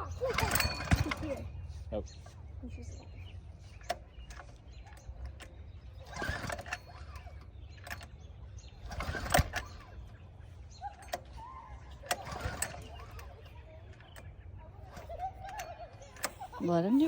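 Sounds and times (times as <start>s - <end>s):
handling clicks and rustling: 0.0s - 17.0s
small engine idling: 0.0s - 17.0s.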